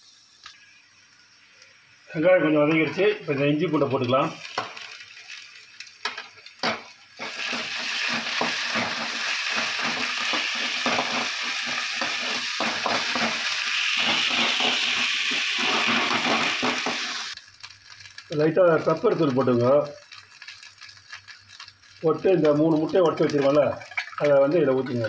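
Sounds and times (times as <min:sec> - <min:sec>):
onions sizzling in hot oil: 0:00.0 - 0:25.0.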